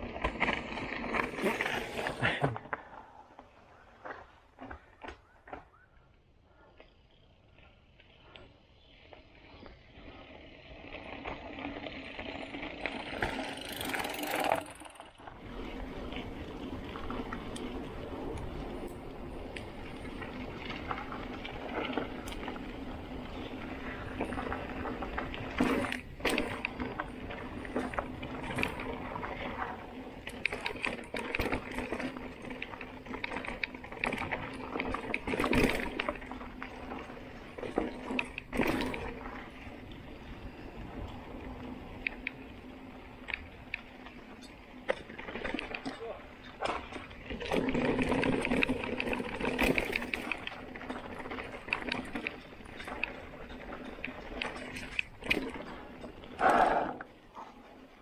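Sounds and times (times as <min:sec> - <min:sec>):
bike rattling: 0:00.0 - 0:58.0
bike tyres rolling on gravel: 0:00.0 - 0:58.0.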